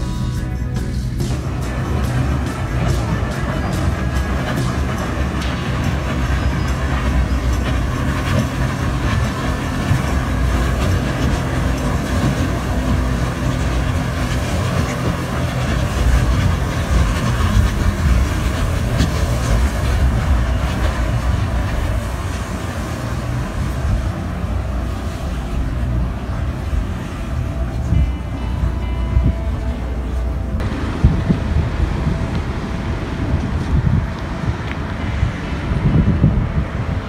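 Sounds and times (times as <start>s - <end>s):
boat engine rumbling: 0.0s - 37.0s
water and air noise: 0.0s - 37.0s.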